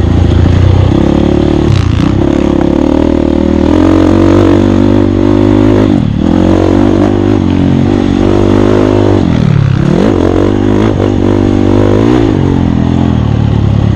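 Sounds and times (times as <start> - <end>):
dirt bike engine revving: 0.0 - 13.9.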